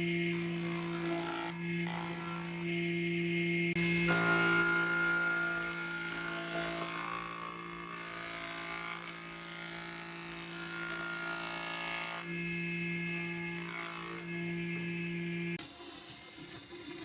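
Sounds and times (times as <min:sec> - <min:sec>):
steady low drone: 0:00.0 - 0:15.6
small electric power tool running: 0:00.0 - 0:17.0.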